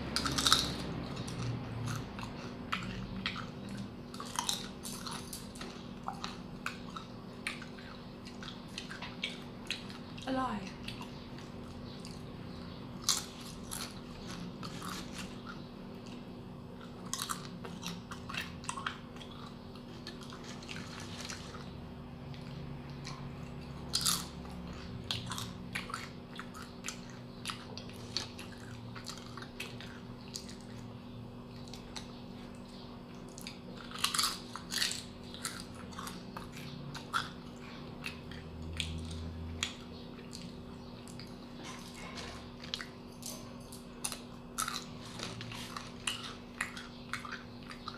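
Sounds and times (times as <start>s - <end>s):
crunching and chewing chips: 0.0s - 47.9s.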